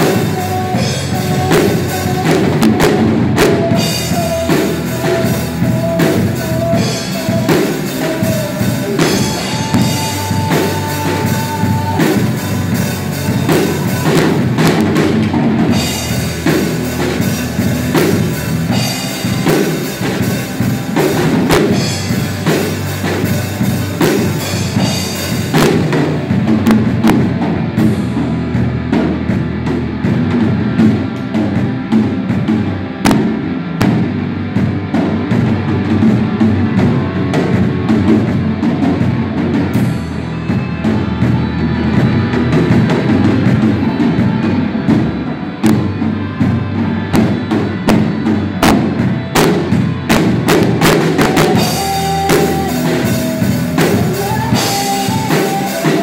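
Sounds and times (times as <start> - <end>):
bass guitar: 0.0 - 56.0
drum kit beating: 0.0 - 56.0
electric guitars: 0.0 - 56.0.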